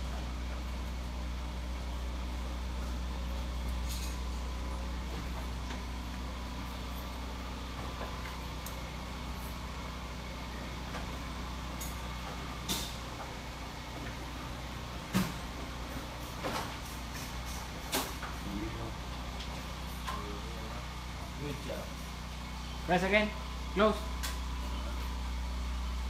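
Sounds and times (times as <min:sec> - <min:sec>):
gate motor whine and hum: 0:00.0 - 0:26.0.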